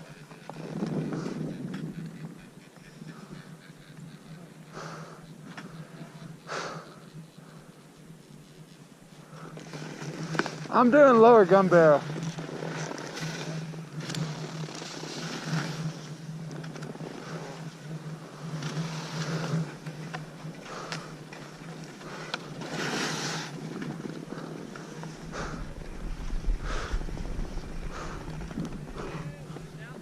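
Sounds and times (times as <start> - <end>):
skis scraping over snow: 0.0 - 30.0
steady low hum: 0.0 - 30.0.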